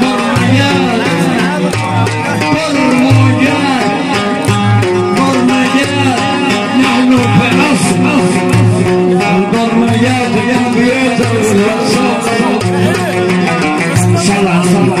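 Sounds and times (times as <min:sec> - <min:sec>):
folk music instruments: 0:00.0 - 0:15.0
man singing through speakers: 0:00.0 - 0:15.0
repeating bass notes: 0:00.0 - 0:15.0.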